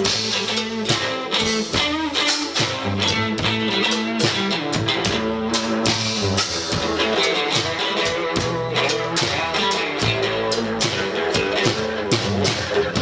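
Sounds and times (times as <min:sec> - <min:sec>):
bass notes: 0:00.0 - 0:13.0
drum kit beat: 0:00.0 - 0:13.0
electric guitar notes: 0:00.0 - 0:13.0.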